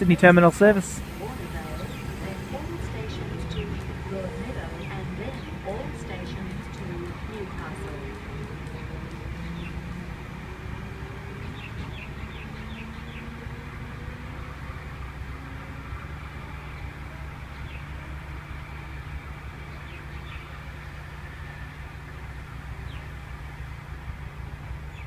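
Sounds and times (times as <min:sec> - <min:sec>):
faint rising tones: 0:00.0 - 0:24.6
electric train rumble and hum: 0:00.0 - 0:25.0.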